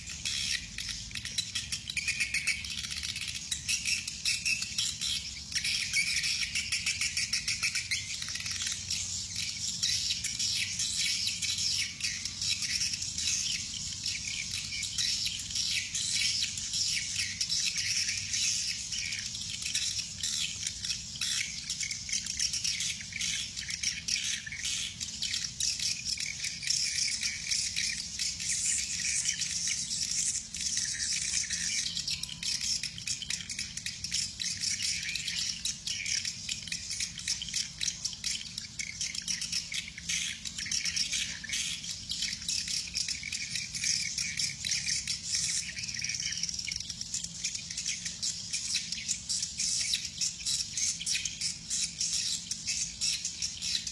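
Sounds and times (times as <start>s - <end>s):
birds chirping and twittering: 0.0s - 53.9s.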